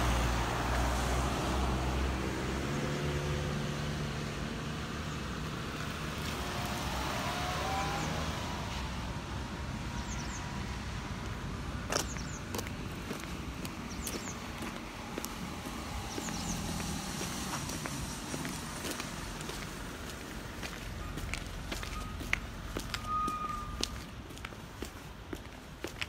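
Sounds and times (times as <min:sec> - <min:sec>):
passing car engine hum: 0:00.0 - 0:11.8, 0:12.6 - 0:23.8.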